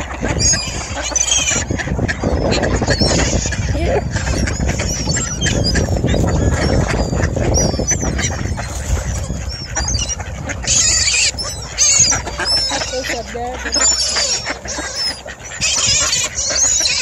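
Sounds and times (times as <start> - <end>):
ducks quacking and calling: 0.0 - 17.0.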